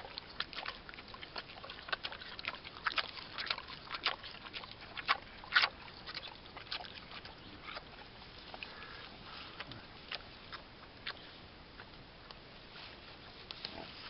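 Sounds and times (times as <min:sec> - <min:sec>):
pig chewing with wet smacks: 0:00.0 - 0:12.4.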